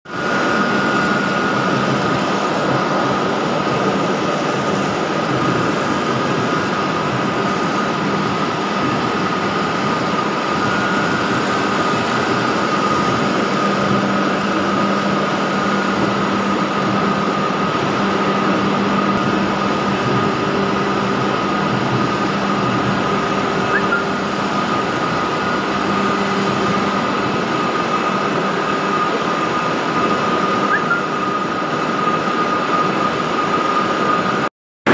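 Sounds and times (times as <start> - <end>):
factory machinery din: 0.1 - 34.9
high machine whine: 0.1 - 34.9
low machine hum: 0.1 - 34.9.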